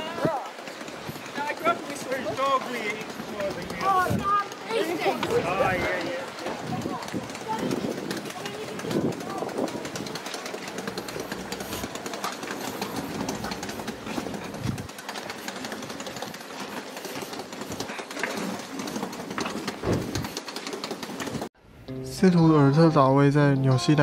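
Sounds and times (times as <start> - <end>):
wheeled luggage rattling on concrete: 0.0 - 21.6.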